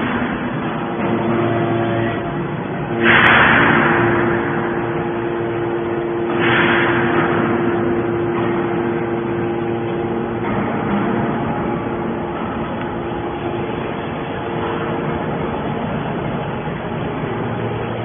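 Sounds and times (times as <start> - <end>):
baler motor hum: 0.0 - 18.0.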